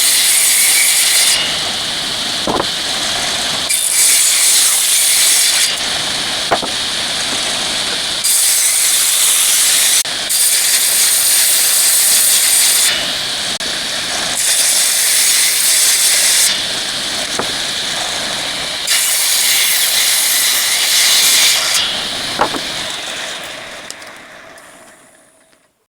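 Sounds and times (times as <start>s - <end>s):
woodworking machine cutting wood: 0.0s - 24.4s.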